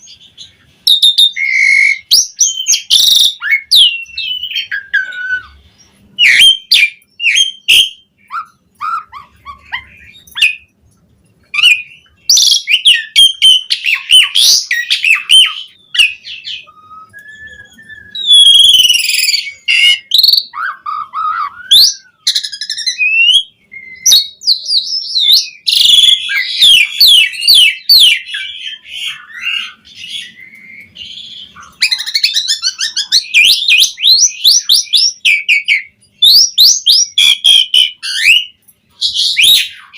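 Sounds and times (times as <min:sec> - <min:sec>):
starling singing: 0:00.0 - 0:10.8, 0:11.4 - 0:39.9.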